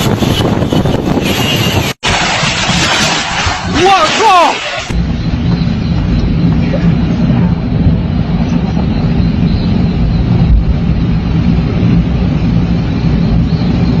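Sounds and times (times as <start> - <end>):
wind buffeting microphone: 0.0 - 3.8, 4.9 - 14.0.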